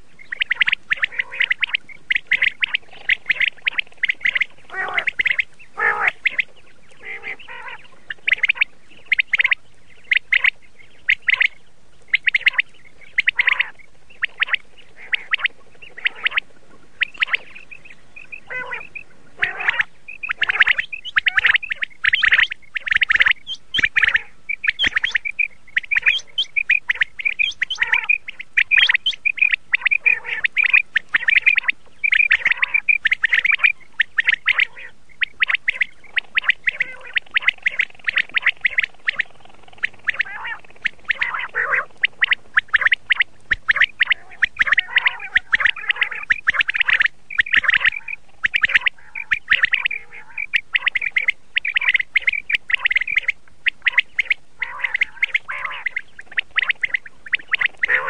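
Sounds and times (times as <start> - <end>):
quail calling: 0.0 - 58.0.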